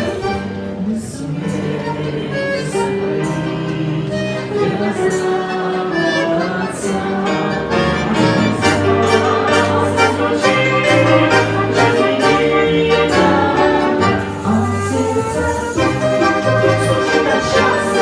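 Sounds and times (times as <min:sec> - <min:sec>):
instrumental music with steady beat: 0:00.0 - 0:18.0.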